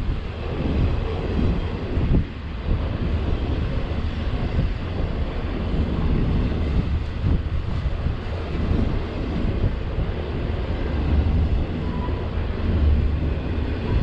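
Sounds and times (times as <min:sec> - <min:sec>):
freight train wheels rumbling: 0:00.0 - 0:14.0
wind buffeting microphone: 0:00.0 - 0:14.0.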